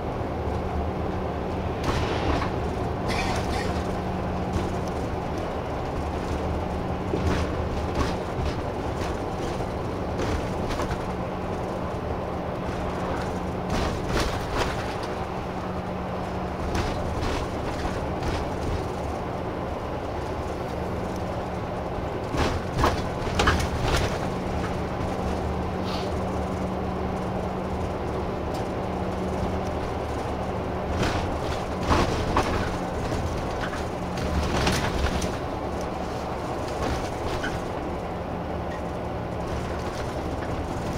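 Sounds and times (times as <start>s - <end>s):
bus engine and road drone: 0.0s - 40.9s.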